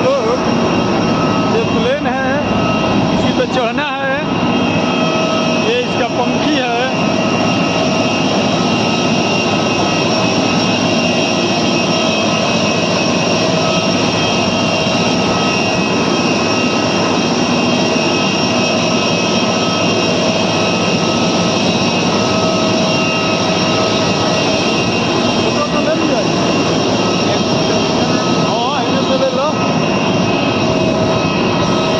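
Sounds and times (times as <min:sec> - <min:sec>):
jet engines running: 0:00.0 - 0:31.9.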